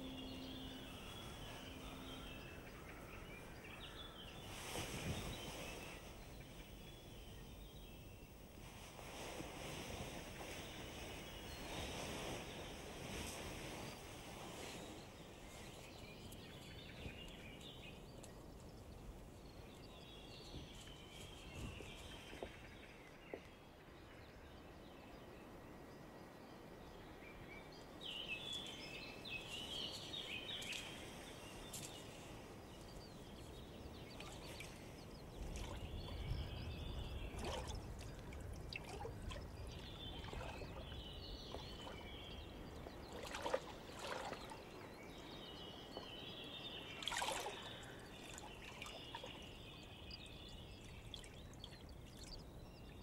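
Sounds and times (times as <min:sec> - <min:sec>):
birds chirping: 0:00.0 - 0:08.6, 0:10.0 - 0:53.0.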